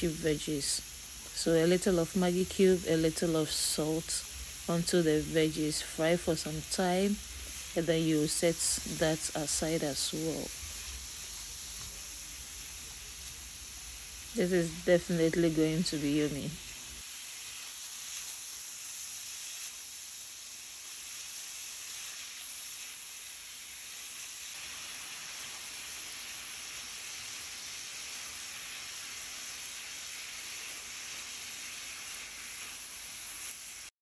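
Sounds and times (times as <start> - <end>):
vegetables sizzling in pan: 0.0 - 34.0.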